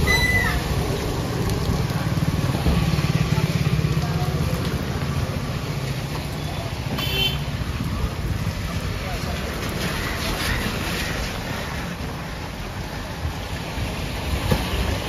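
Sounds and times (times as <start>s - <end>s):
motorcycle and scooter engines passing: 0.0s - 15.0s.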